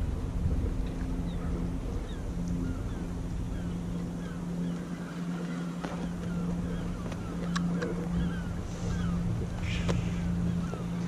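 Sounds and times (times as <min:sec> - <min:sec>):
boat engine droning: 0:00.0 - 0:11.0
wind rumble on microphone: 0:00.0 - 0:11.0.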